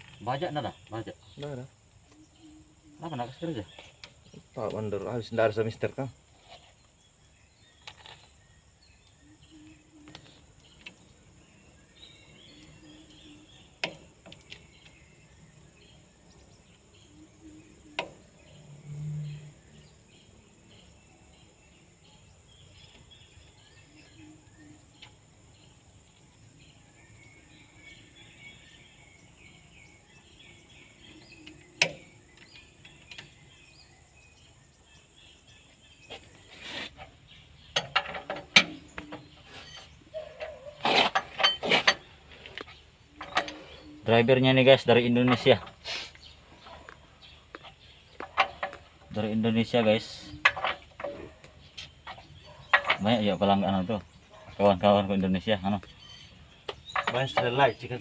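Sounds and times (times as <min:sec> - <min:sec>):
birds chirping: 0:00.0 - 0:58.0
insects chirping: 0:00.0 - 0:58.0.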